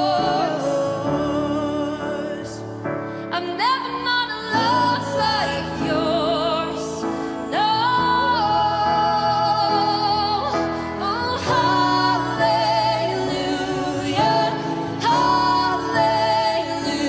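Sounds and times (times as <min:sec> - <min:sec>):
piano: 0:00.0 - 0:17.0
woman singing worship song: 0:00.0 - 0:17.0.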